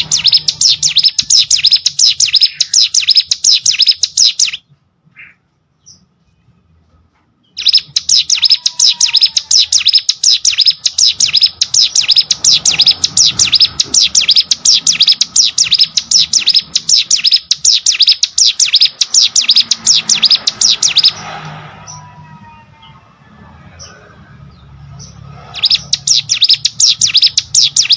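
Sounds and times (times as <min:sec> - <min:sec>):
bird singing sharp high chirps: 0:00.0 - 0:04.6, 0:07.5 - 0:22.0, 0:24.6 - 0:27.9.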